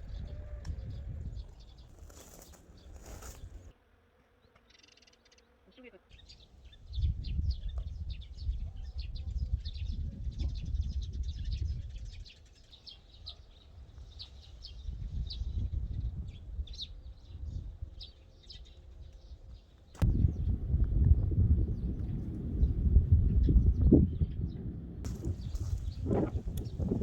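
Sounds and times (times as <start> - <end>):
small birds chirping: 0.0 - 3.7, 4.4 - 20.6, 21.6 - 27.0.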